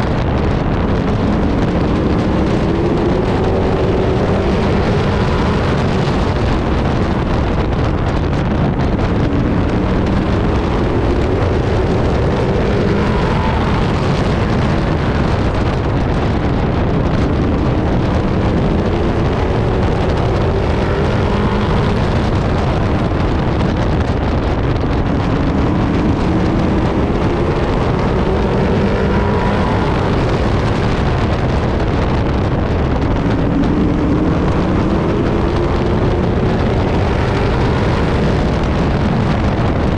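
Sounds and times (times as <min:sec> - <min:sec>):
truck engine revving: 0:00.0 - 0:39.9
wind rushing: 0:00.0 - 0:39.9.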